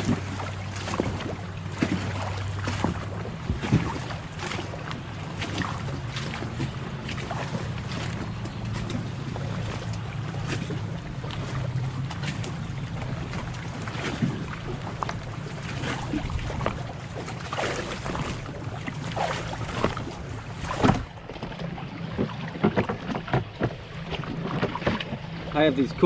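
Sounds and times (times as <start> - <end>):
knocks and splashes: 0.0 - 26.0
watercraft idling hum: 0.0 - 26.0.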